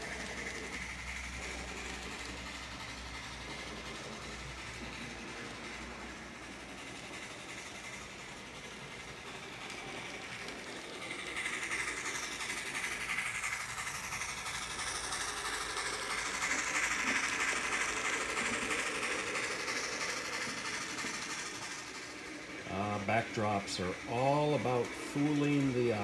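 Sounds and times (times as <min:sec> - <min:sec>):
model train clattering on track: 0:00.0 - 0:26.0.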